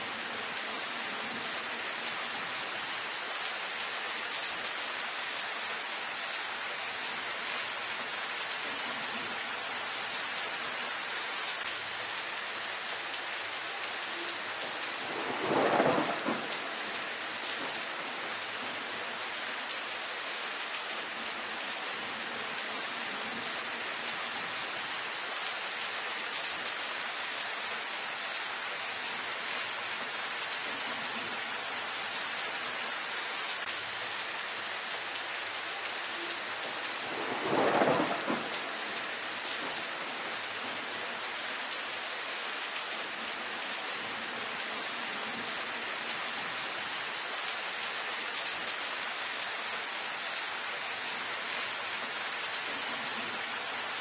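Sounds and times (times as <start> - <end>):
rain on dense foliage: 0.0 - 54.0.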